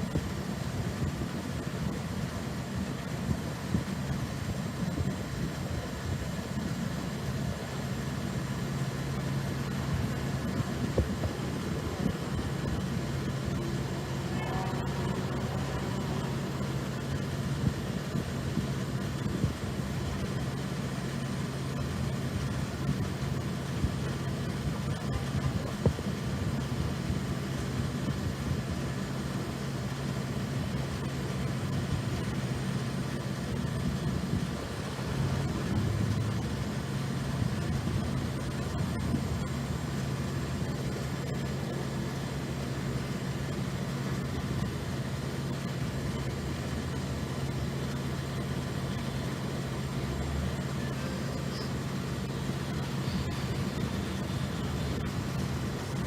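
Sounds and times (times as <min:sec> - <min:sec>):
constant rushing noise: 0:00.0 - 0:56.0
low machine hum: 0:00.0 - 0:56.0.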